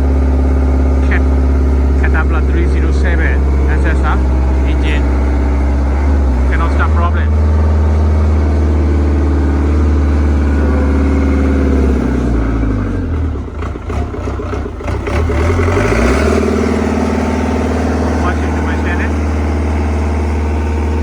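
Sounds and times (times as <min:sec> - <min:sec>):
diesel excavator engine running: 0:00.0 - 0:21.0
engine knocks: 0:00.0 - 0:21.0.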